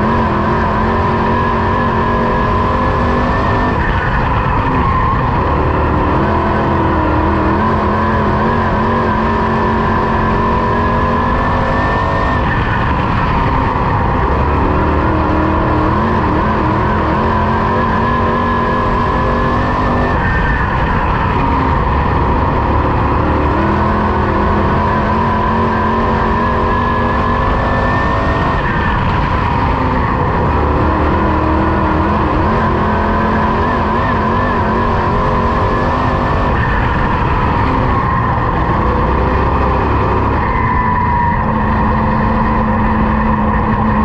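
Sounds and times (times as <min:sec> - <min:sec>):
race car engine at speed: 0:00.0 - 0:44.0
road and wind noise: 0:00.0 - 0:44.0.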